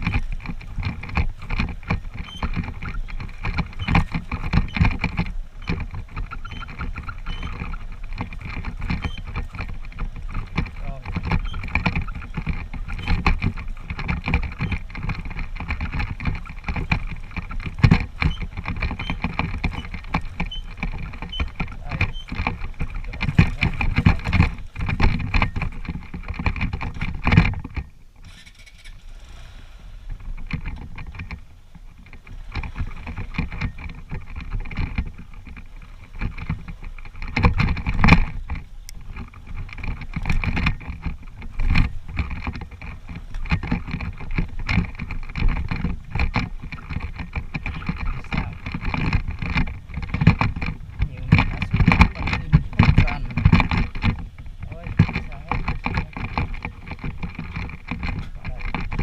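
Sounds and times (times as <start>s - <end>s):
knocks and rattles from bumps: 0.0s - 29.0s, 30.0s - 59.0s
motorcycle engine running: 0.0s - 59.0s.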